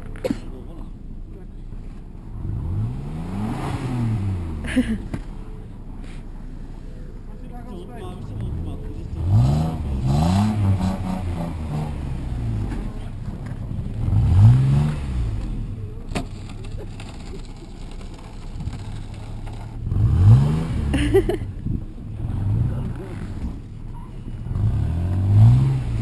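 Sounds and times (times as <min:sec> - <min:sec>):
car engine revving: 0:02.2 - 0:05.8, 0:08.1 - 0:26.0.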